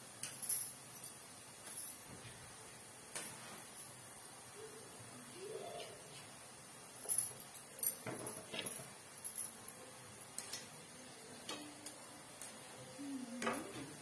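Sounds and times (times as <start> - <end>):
faint deep-frying sizzle: 0.0 - 7.0, 8.9 - 14.0.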